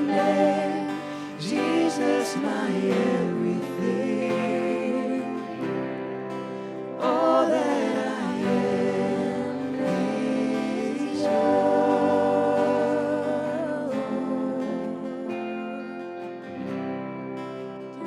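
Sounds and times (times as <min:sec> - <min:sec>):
sustained instrumental accompaniment: 0:00.0 - 0:18.0
voices singing slow song: 0:00.0 - 0:18.0.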